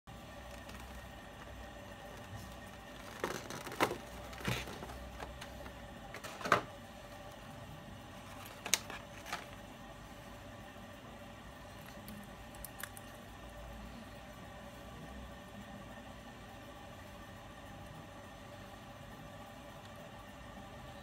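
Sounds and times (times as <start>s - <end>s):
faint steady hum: 0.1s - 21.0s.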